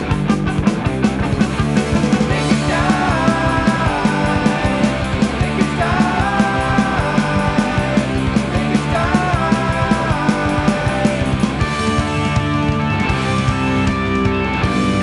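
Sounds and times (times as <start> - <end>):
punk rock music: 0.0 - 15.0.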